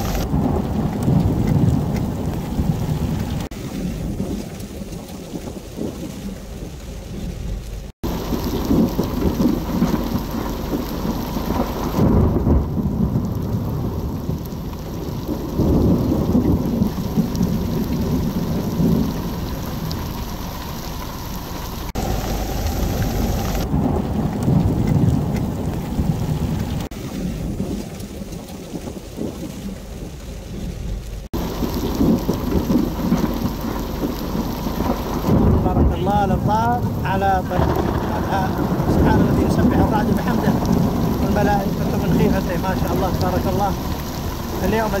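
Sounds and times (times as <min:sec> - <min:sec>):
heavy rain on road and stones: 0:00.0 - 0:45.0
low rolls of thunder: 0:00.0 - 0:45.0.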